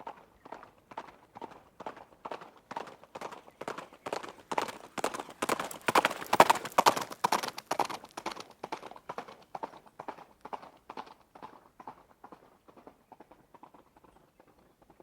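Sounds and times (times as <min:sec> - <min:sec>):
horse hooves galloping: 0:00.0 - 0:15.0.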